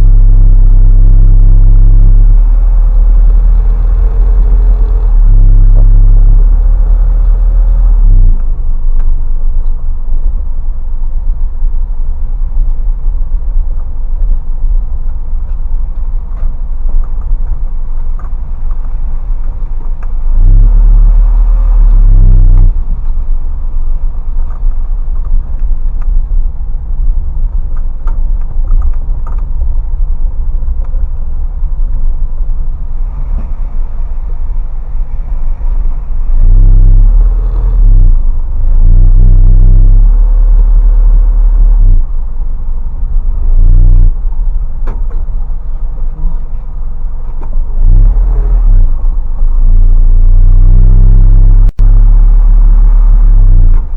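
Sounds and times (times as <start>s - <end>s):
truck engine and road rumble: 0.0s - 53.9s.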